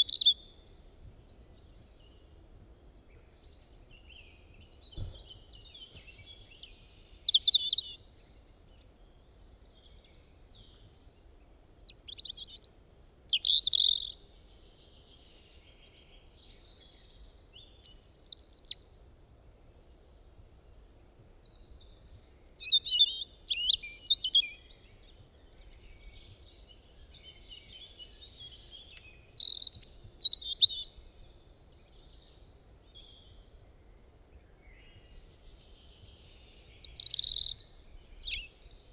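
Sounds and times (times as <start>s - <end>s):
robin singing: 0.0s - 2.2s, 2.8s - 8.4s, 11.8s - 18.8s, 21.1s - 33.6s, 34.4s - 38.9s.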